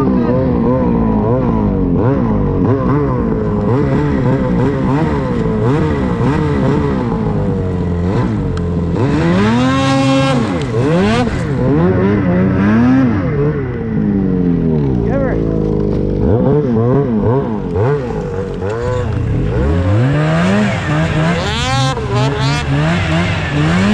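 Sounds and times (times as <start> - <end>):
snowmobile engine revving: 0.0 - 23.9.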